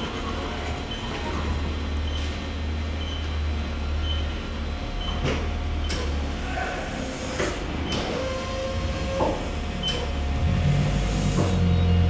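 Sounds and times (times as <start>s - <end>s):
axis drives whining: 0.0s - 12.0s
low machine hum: 0.0s - 12.0s.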